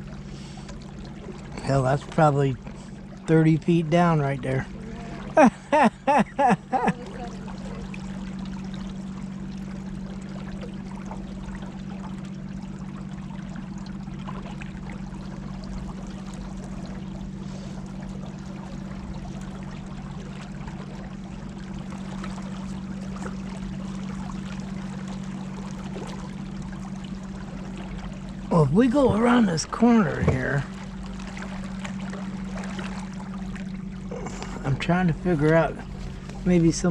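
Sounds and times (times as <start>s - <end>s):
steady low hum: 0.0s - 36.9s
water rushing along boat hull: 0.0s - 36.9s.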